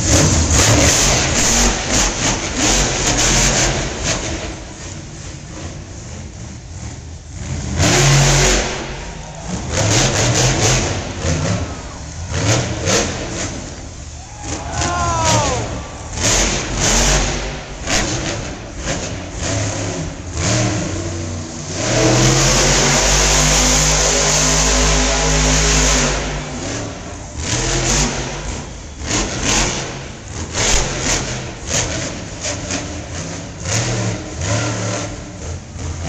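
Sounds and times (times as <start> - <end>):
truck engine revving hard: 0.0 - 36.0.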